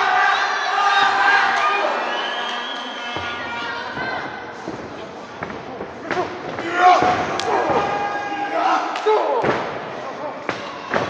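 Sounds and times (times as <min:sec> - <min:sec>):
crowd shouting and cheering: 0:00.0 - 0:11.0.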